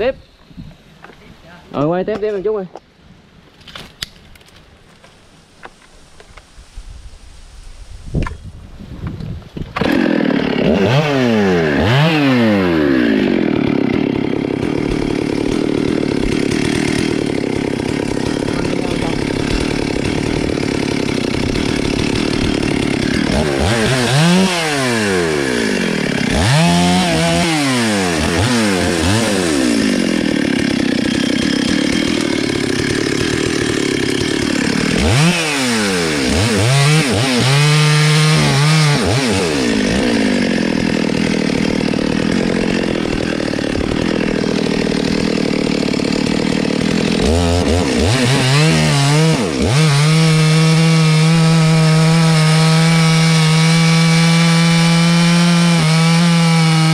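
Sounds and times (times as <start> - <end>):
chainsaw cutting wood: 9.6 - 56.9.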